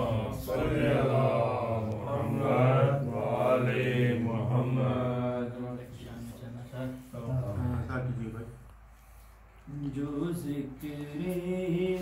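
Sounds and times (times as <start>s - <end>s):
man chanting melodically: 0.0s - 8.7s, 9.6s - 12.0s.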